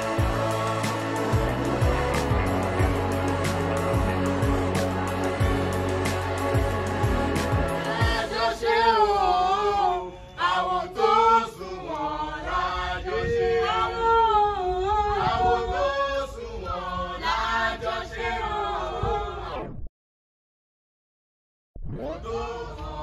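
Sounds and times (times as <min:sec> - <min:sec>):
voices singing a chant: 0:00.0 - 0:19.6, 0:22.0 - 0:23.0.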